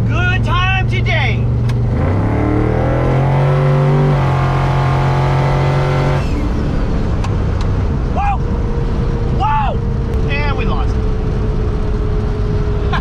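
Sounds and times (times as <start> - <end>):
road and wind noise: 0.0 - 13.0
car engine accelerating: 1.4 - 13.0.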